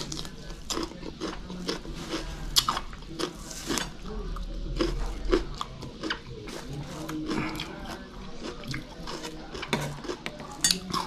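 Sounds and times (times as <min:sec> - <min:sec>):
chewing raw vegetables: 0:00.0 - 0:11.0.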